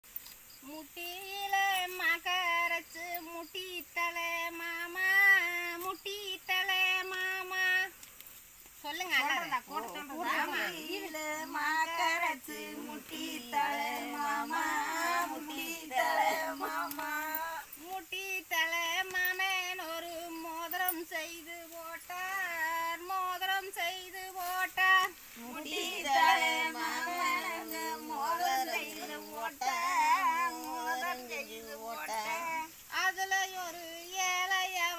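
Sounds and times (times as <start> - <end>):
woman singing unaccompanied: 0.6 - 8.0, 8.8 - 34.9.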